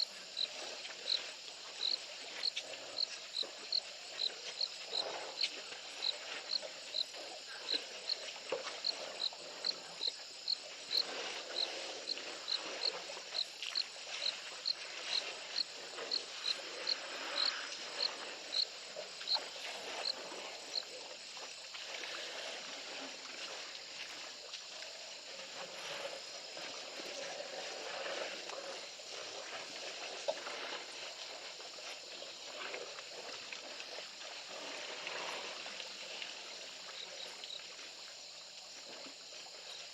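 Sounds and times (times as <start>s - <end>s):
insect hum: 0.0s - 39.9s.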